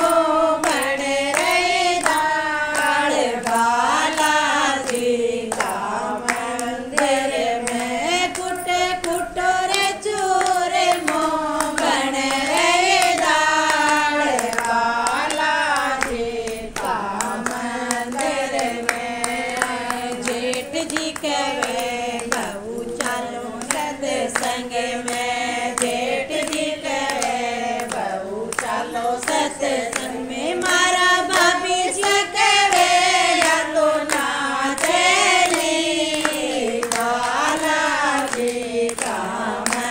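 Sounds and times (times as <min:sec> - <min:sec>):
hands clapping in time: 0:00.0 - 0:39.9
people singing devotional song: 0:00.0 - 0:39.9.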